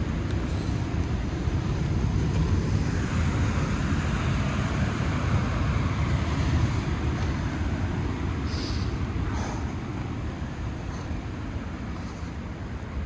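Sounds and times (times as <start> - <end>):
surf hiss: 0.0 - 13.0.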